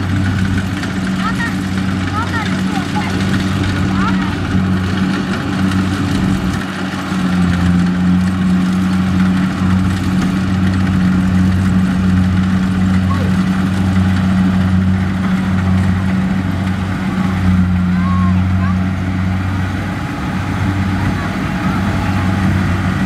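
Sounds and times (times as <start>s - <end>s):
combine harvester engine running: 0.0s - 23.0s.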